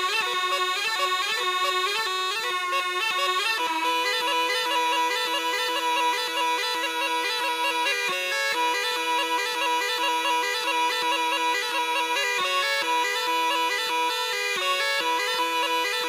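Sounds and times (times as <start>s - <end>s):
bagpipe melody with drone: 0.0s - 16.0s.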